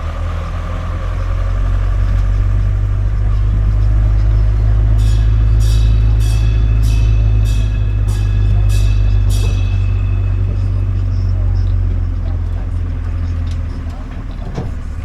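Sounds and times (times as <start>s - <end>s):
engine running low drone: 0.0s - 15.0s.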